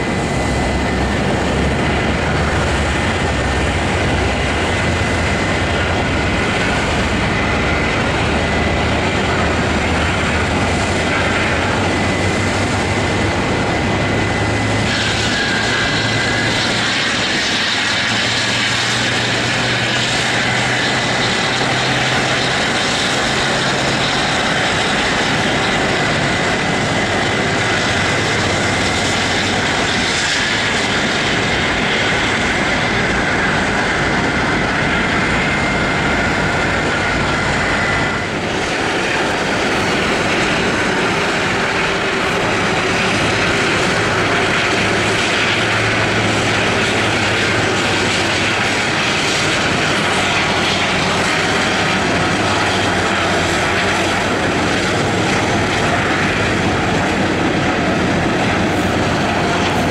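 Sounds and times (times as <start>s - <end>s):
high fan whine: 0.0s - 59.9s
jet engines rumbling: 0.0s - 59.9s.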